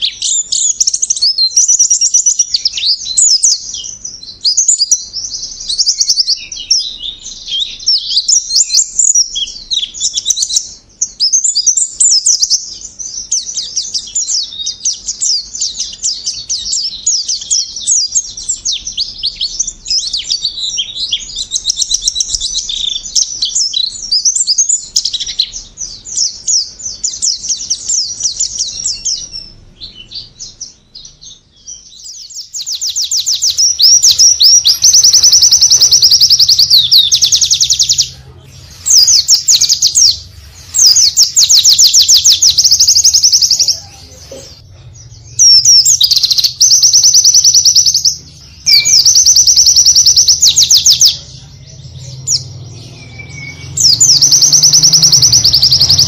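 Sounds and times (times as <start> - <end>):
bird twittering with rapid trills: 0.0 - 56.0.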